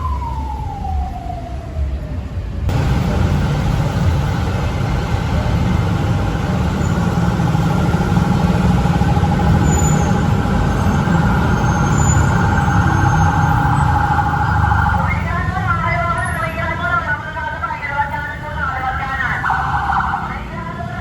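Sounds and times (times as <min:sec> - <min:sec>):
fire truck engine rumbling: 0:00.0 - 0:21.0.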